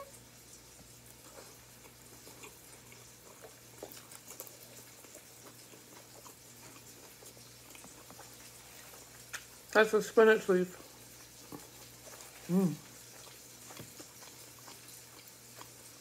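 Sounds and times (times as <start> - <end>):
person chewing salad greens: 0.0 - 10.2, 10.8 - 16.0.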